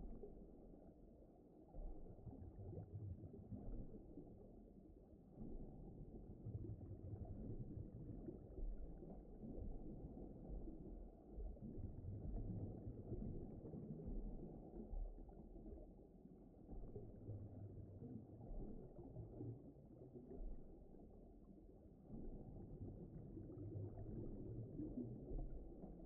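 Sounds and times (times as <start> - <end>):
low rumbling deep ocean ambience: 0.0 - 26.0.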